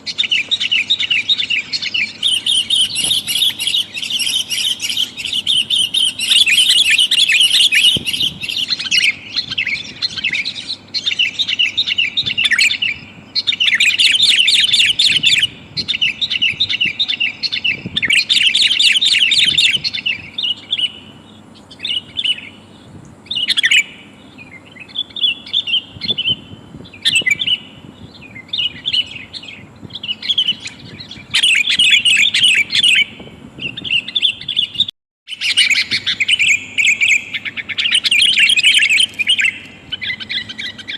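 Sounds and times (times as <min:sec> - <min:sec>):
bird chattering calls: 0:00.0 - 0:40.9.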